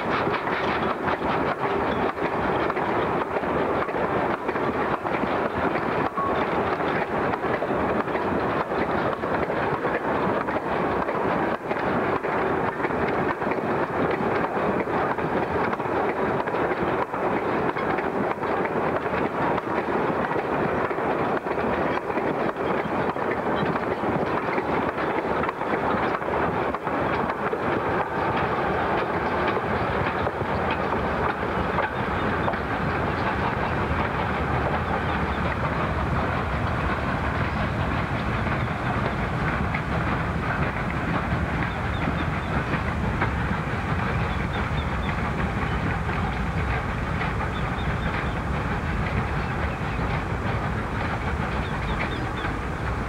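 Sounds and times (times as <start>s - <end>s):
train wheels clattering over rail joints: 0.0s - 53.0s.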